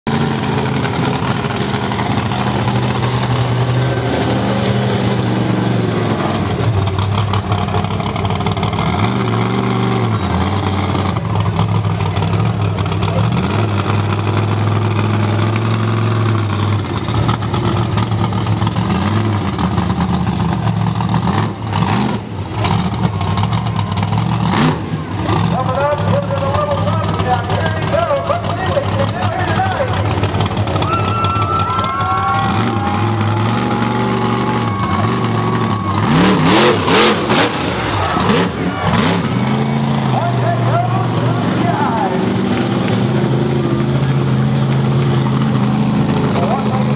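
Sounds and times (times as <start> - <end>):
truck engine revving: 0.1 - 46.9.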